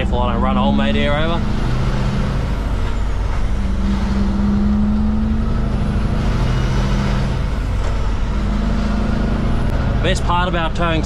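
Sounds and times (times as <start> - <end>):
truck diesel engine drone: 0.0 - 11.0.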